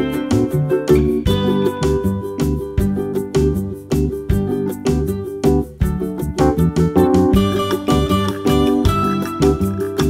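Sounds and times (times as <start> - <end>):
bass line: 0.0 - 10.0
plucked-string tune with beat: 0.0 - 10.0.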